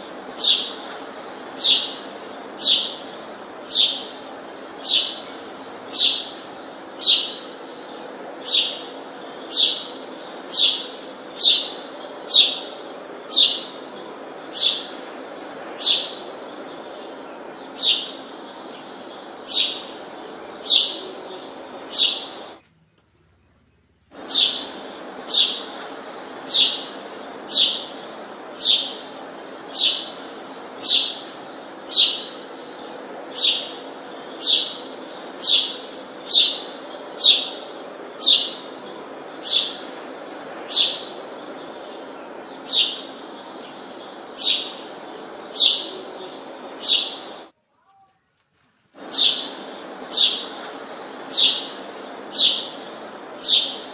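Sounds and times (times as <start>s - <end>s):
bird chirping: 0.0s - 47.5s, 49.0s - 53.9s
steady background hum: 0.0s - 47.6s, 48.6s - 53.9s.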